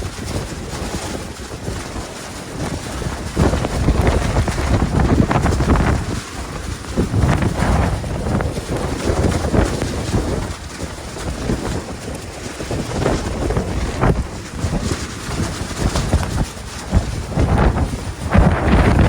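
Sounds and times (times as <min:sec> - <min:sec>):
blizzard wind gusting: 0:00.0 - 0:19.0.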